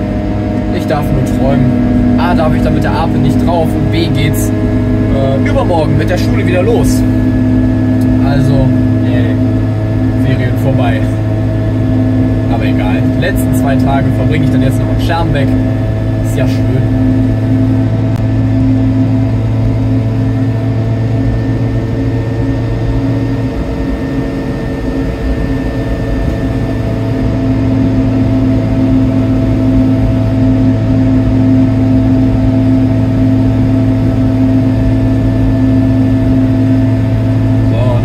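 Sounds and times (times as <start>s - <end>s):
two-stroke engine running: 0.0s - 38.0s.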